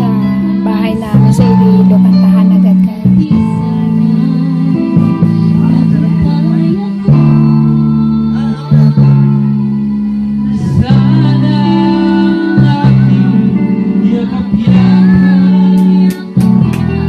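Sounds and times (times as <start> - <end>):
man singing into a microphone: 0.0 - 9.4, 10.4 - 17.0
girl singing along: 0.0 - 9.8, 10.5 - 17.0
backing track of guitar and bass: 0.0 - 17.0.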